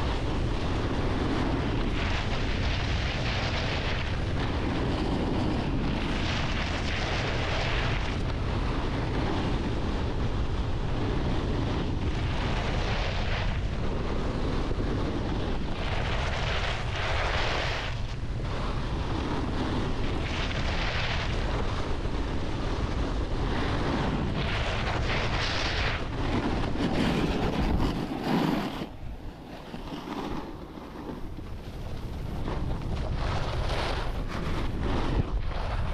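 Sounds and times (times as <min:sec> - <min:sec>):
snowboard edge scraping snow: 0:00.0 - 0:35.9
wind buffeting microphone: 0:00.0 - 0:35.9.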